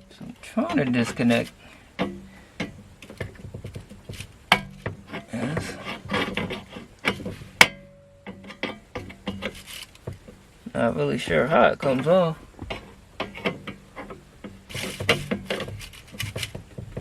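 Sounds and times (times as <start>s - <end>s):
hands and tools clicking and scraping: 0.0s - 17.0s.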